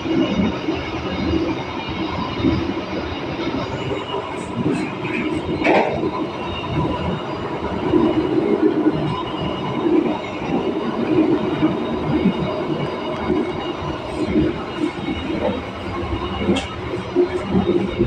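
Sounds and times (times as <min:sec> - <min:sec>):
train rumbling and rattling on rails: 0:00.0 - 0:18.0.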